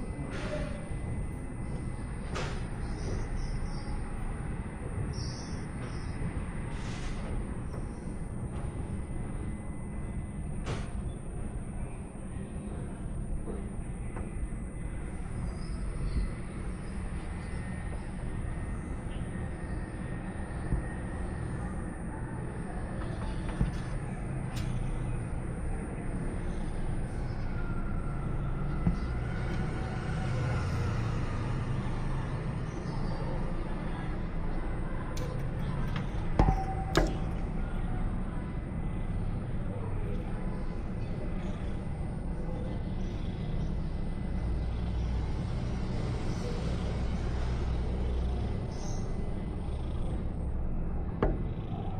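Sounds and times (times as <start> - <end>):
traffic rumble: 0.0 - 51.9.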